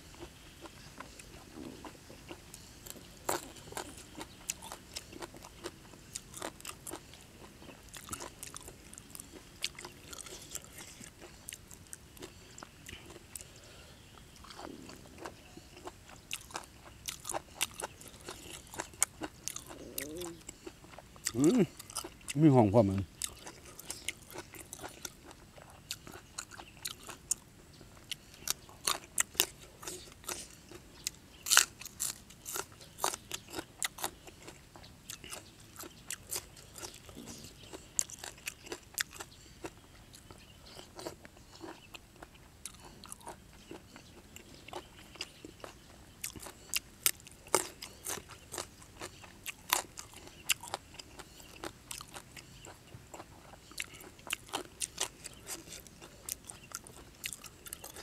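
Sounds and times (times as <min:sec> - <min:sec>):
soft chewing of meat: 0:00.0 - 0:58.0
crunching raw vegetables: 0:00.1 - 0:58.0.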